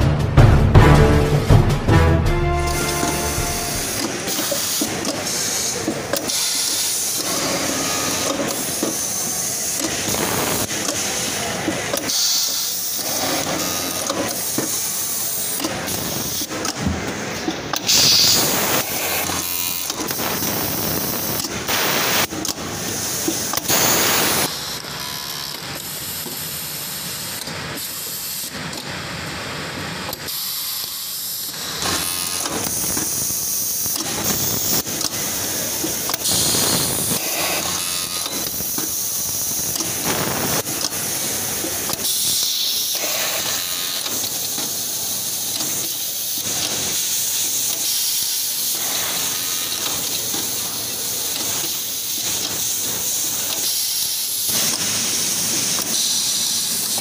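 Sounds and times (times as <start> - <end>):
overlock sewing machine running: 2.7 - 25.9, 31.1 - 57.0
pneumatic air hiss: 3.9 - 16.8, 17.4 - 24.6, 30.3 - 57.0.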